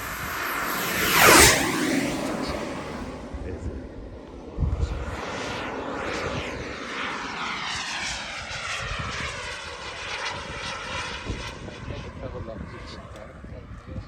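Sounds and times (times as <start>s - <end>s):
jet turbine whining flyby: 0.0s - 14.0s.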